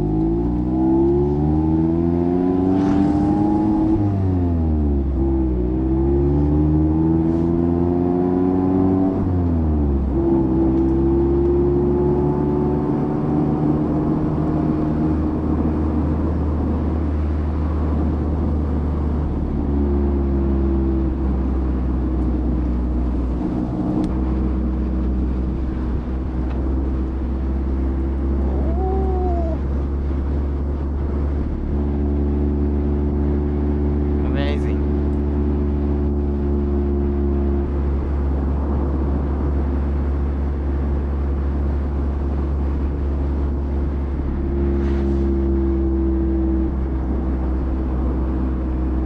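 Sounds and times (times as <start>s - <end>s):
car engine accelerating: 0.0s - 49.0s
road noise: 0.0s - 49.0s.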